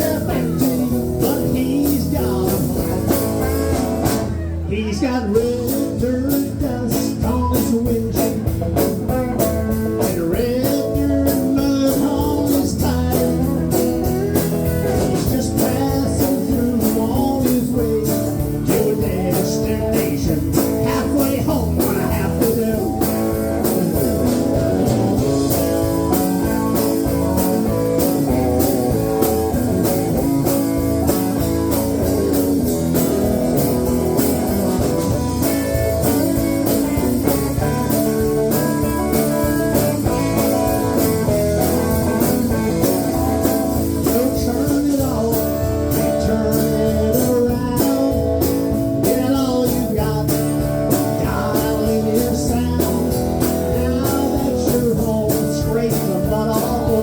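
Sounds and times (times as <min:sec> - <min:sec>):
country band playing: 0:00.0 - 0:57.0
lead guitar: 0:00.0 - 0:57.0.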